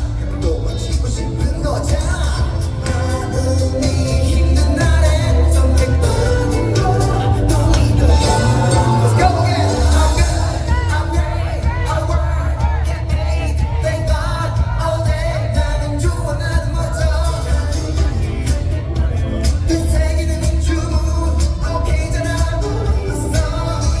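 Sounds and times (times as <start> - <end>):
person singing: 0.0 - 24.0
pop backing track with heavy bass: 0.0 - 24.0.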